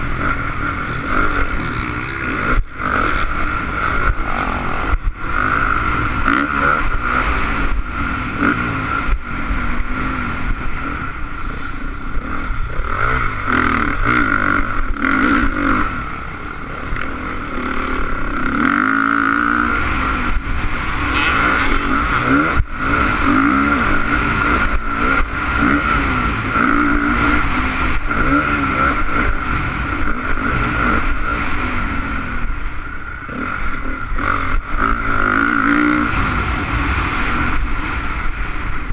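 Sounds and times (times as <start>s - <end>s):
motocross engine revving: 0.0s - 37.7s.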